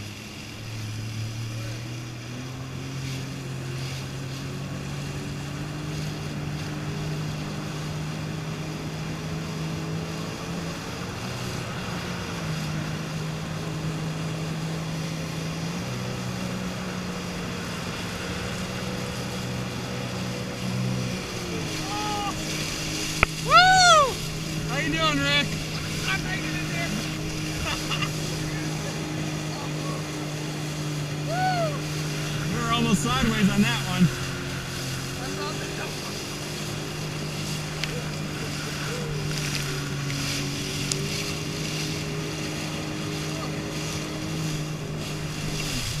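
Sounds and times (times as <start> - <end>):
jet ski engine drone: 0.0 - 46.0
rushing water and spray: 0.0 - 46.0.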